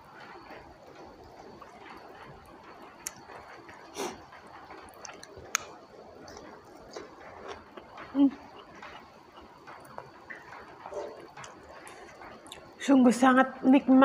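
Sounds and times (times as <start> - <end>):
chewing and wet mouth sounds: 0.4 - 12.8.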